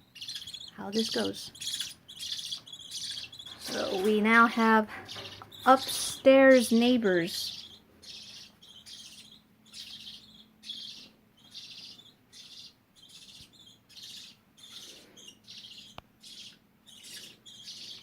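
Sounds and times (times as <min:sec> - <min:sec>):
budgerigar calling: 0:00.2 - 0:04.1, 0:04.9 - 0:06.0, 0:07.3 - 0:18.0.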